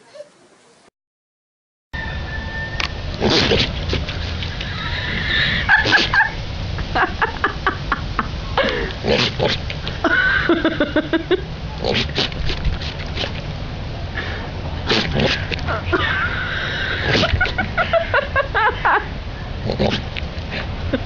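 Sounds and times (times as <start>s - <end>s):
steady low rumble: 2.0s - 21.0s.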